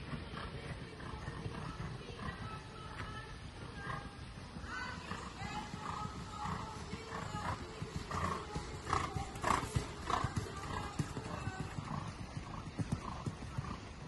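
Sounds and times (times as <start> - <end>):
horse hoofbeats on sand: 0.0 - 14.0.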